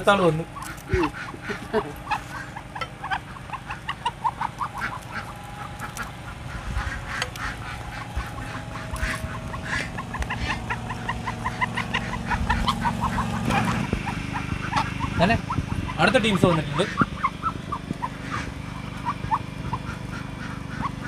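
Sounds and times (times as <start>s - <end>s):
duck calling: 0.0s - 21.0s
low steady hum: 0.0s - 21.0s.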